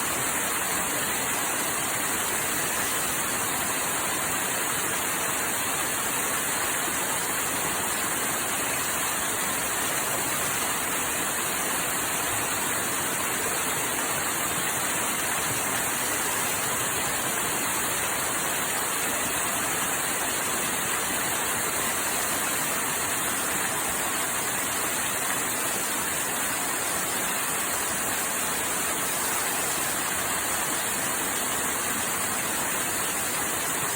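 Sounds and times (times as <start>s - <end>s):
waterfall pouring: 0.0s - 33.9s.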